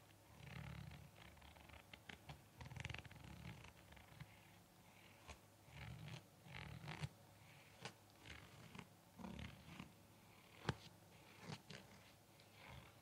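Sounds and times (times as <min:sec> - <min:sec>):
rustling and scratching on face mask: 0:00.0 - 0:13.0.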